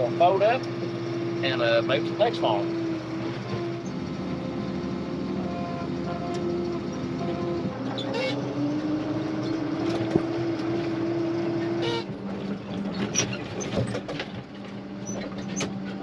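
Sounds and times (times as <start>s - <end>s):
machinery clanks and rattles: 0.0s - 16.0s
tractor engine running: 0.0s - 16.0s.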